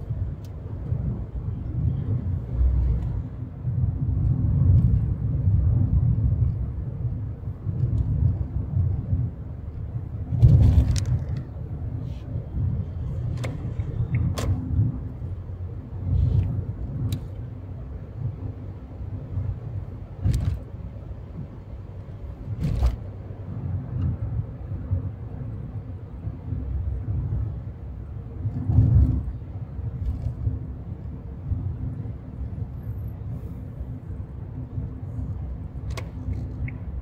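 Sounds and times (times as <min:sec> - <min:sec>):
car road noise: 0:00.0 - 0:37.0.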